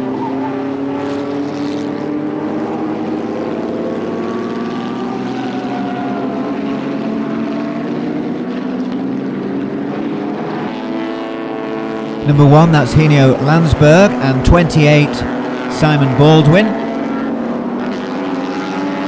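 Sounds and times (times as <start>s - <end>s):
racing car engines: 0.0s - 19.0s.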